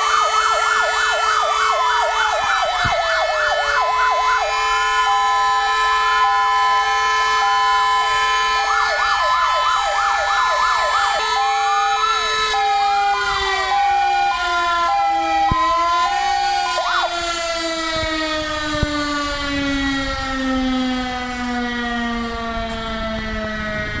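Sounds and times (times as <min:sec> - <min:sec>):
fire engine sirens wailing: 0:00.0 - 0:24.0
motor-driven alarm siren: 0:00.0 - 0:24.0.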